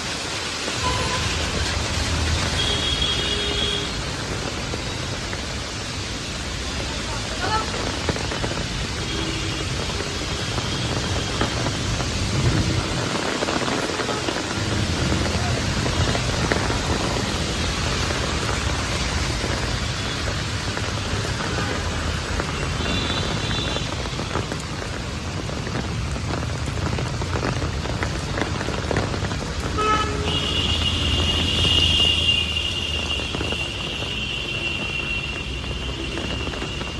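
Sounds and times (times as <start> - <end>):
passing traffic rumble: 0.0 - 36.9
rain on a street: 0.0 - 36.9.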